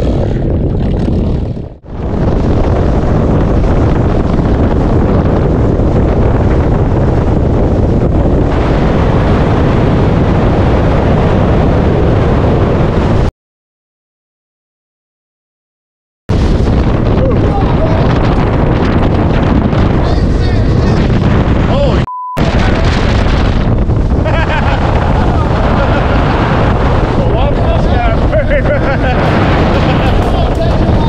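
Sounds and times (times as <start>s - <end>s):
wind buffeting microphone: 0.0s - 13.3s, 16.3s - 31.0s.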